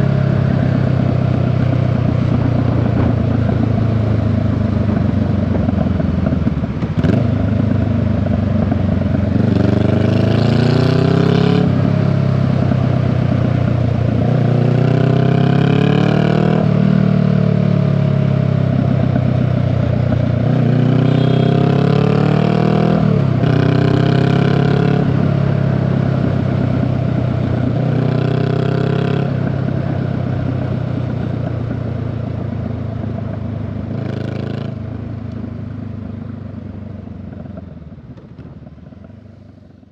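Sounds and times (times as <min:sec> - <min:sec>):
motorcycle engine revving: 0:00.0 - 0:36.3.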